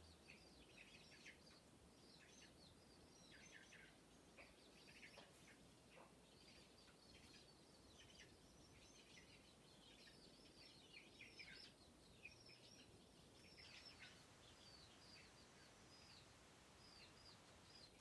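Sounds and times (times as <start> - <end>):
baby chicks peeping: 0.0 - 18.0.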